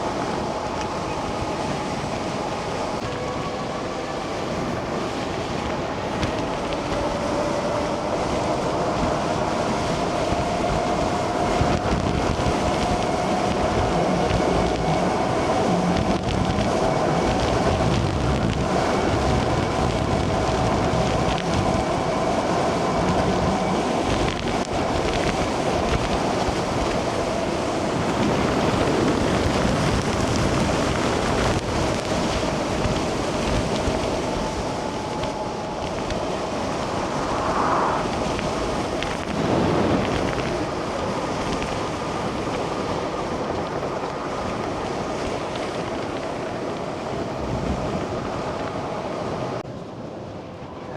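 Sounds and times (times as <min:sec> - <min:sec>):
wind buffeting microphone: 0:00.0 - 0:49.7.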